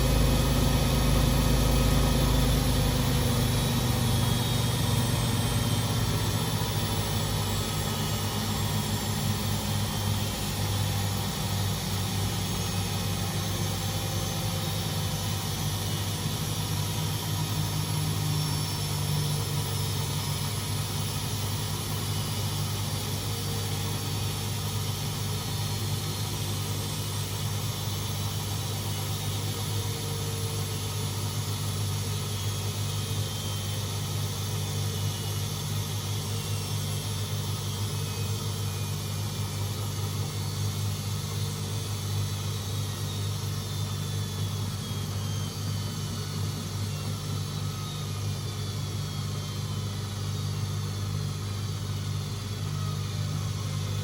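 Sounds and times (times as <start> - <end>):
washing machine spinning down: 0.0 - 54.0.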